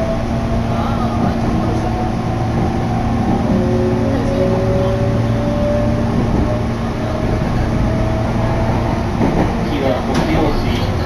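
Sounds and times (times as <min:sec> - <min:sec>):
train ride rumble: 0:00.0 - 0:11.0.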